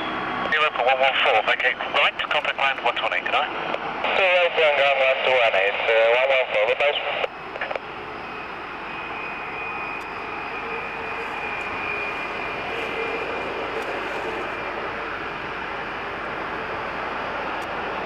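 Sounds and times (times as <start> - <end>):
jet engines humming with whine: 0.0 - 18.0.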